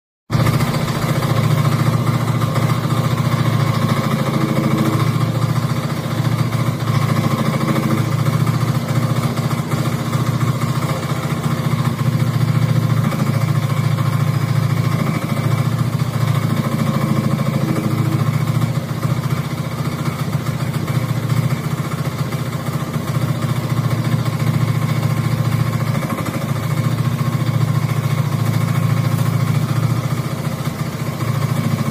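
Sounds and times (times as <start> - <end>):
mini excavator engine running: 0.3 - 31.9.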